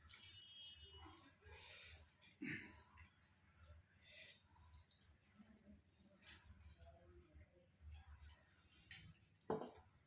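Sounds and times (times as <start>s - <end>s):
faint eating by hand sounds: 0.0s - 10.0s.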